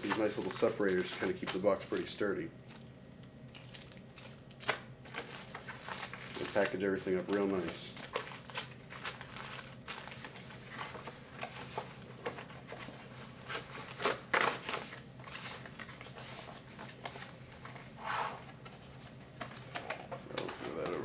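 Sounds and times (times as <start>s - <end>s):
plastic bags crinkling: 0.0s - 2.9s, 3.5s - 17.6s.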